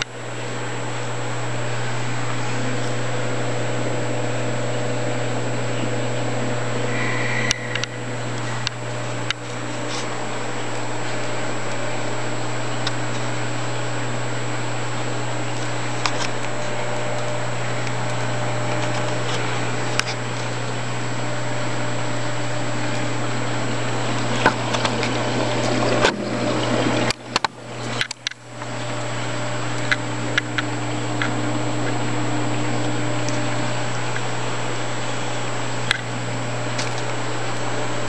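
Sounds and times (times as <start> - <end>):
aquarium pump hum: 0.0 - 38.0
water moving through tank: 0.0 - 38.0.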